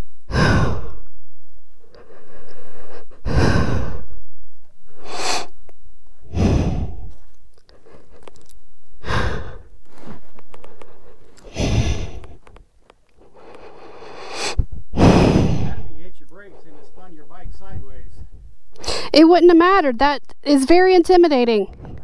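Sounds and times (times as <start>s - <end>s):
heavy breathing and sighs: 0.2s - 19.2s.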